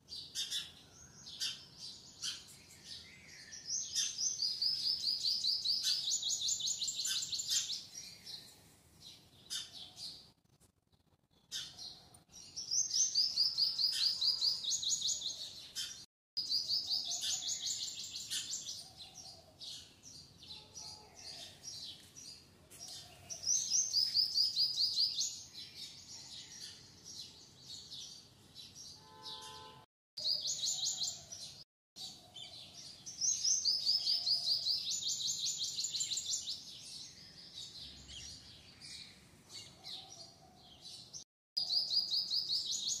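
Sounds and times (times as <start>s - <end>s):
small birds chirping trills: 0.0s - 43.0s.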